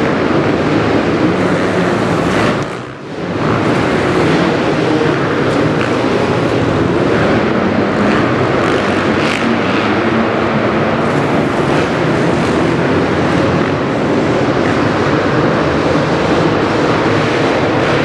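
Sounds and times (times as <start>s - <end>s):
motocross bike engine running: 0.0s - 18.0s.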